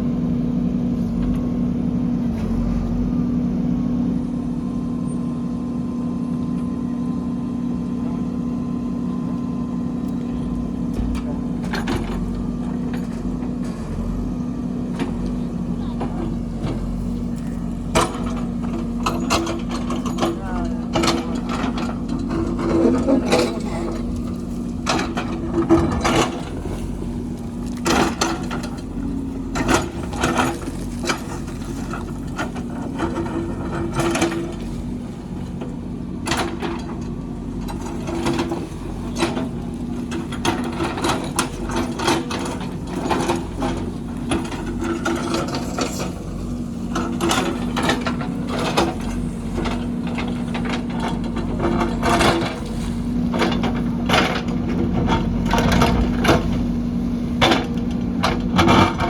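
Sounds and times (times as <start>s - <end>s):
diesel engine running: 0.0s - 59.0s
digger knocks and clatter: 7.8s - 59.0s.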